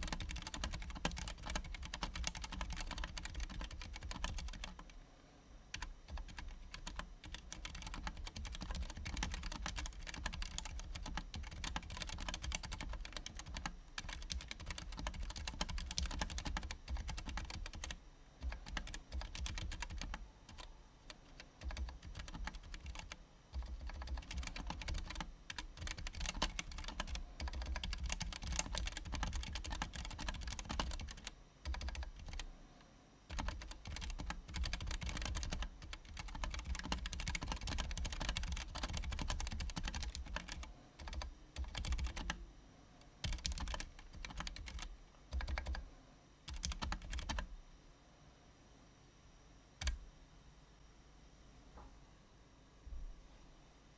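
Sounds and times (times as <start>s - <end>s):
mechanical keyboard typing: 0.0s - 5.0s, 5.7s - 32.5s, 33.3s - 42.4s, 43.2s - 45.8s, 46.5s - 47.5s, 49.8s - 50.0s.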